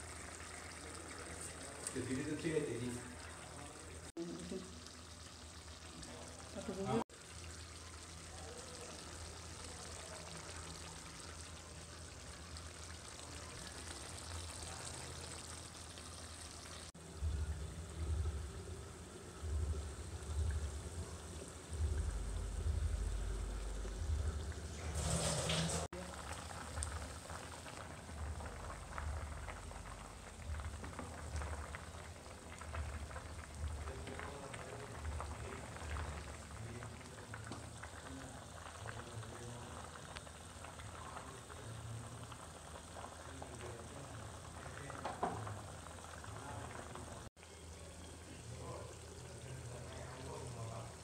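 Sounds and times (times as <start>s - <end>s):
curry boiling with bubbles: 0.0s - 51.0s.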